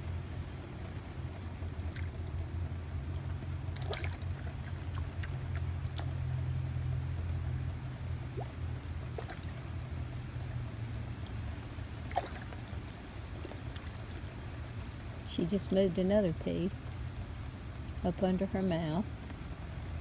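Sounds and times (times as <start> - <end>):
heavy rain on water: 0.0 - 20.0
low rumble: 0.0 - 20.0.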